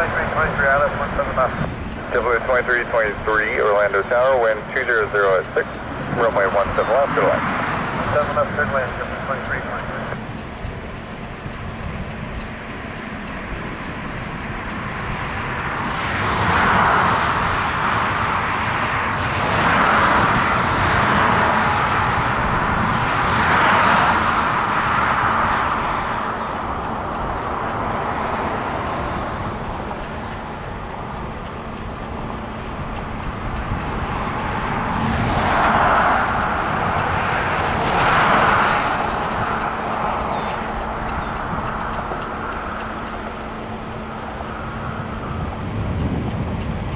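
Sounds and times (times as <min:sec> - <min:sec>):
traffic rumble: 0:00.0 - 0:46.9
vehicles passing: 0:00.0 - 0:46.9.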